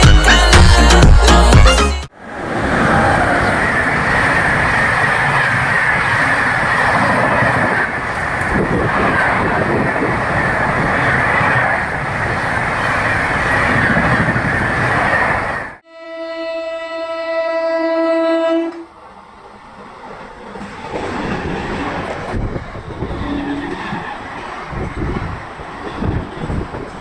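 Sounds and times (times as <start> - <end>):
train wheels rushing on rail: 2.1 - 15.8, 18.7 - 27.0.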